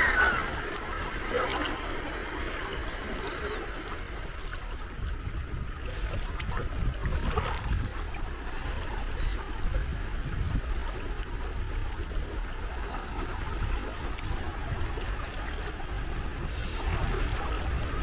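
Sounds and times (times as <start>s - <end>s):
sea waves lapping at shore: 0.0s - 18.0s.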